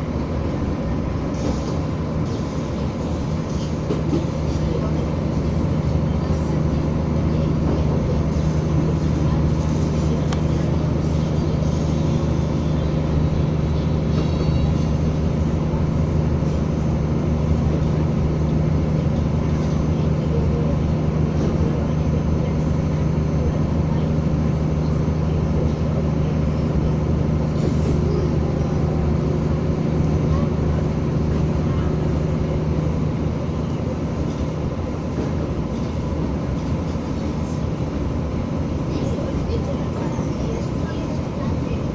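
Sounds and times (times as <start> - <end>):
diesel engine droning: 0.0 - 41.9
train running noise: 0.0 - 41.9.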